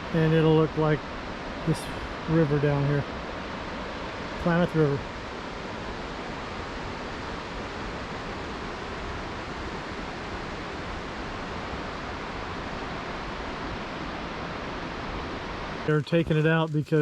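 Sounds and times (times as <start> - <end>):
river water rushing: 0.0 - 16.7.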